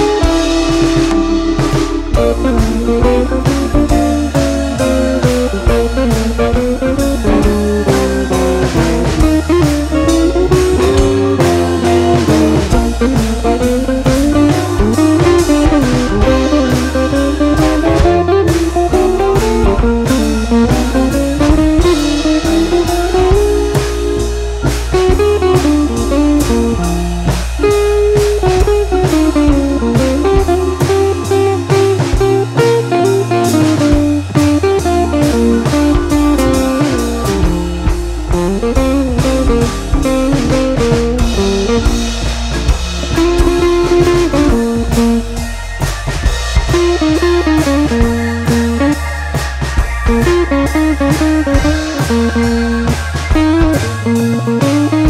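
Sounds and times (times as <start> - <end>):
blues guitar music: 0.0 - 55.0
steady drum beat: 0.0 - 55.0.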